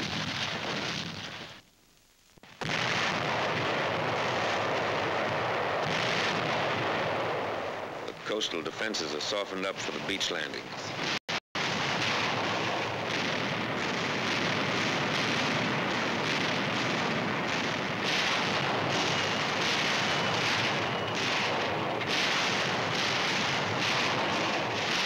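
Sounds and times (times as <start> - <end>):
explosions and gunfire rumble: 0.0 - 1.6, 2.4 - 25.0.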